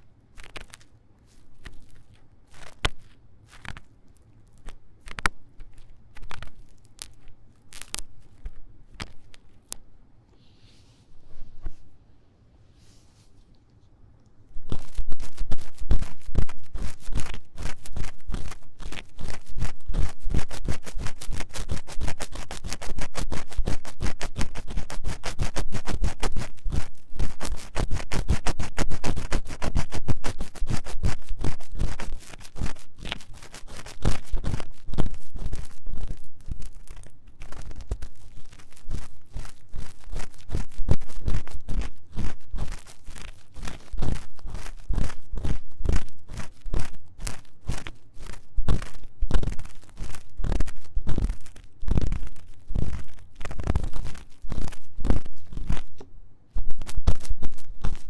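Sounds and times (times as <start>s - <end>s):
rapid scratching on a microphone: 0.0s - 9.9s, 14.5s - 58.0s.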